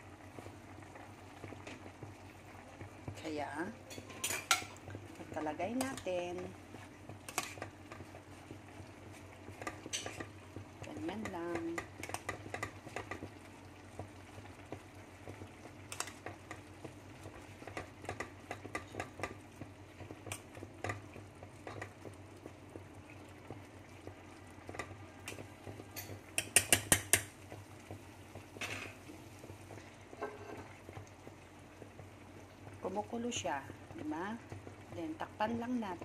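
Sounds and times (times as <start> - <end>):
soup boiling: 0.0 - 36.0.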